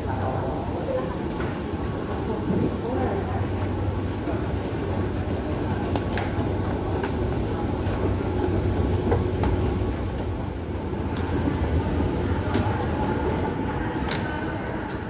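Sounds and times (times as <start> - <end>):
metro train rumble: 0.0 - 15.0.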